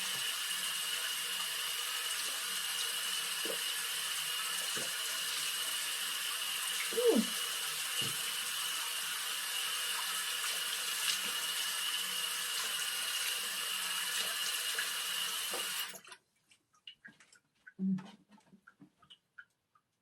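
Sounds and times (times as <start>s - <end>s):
water running from tap: 0.0s - 16.1s.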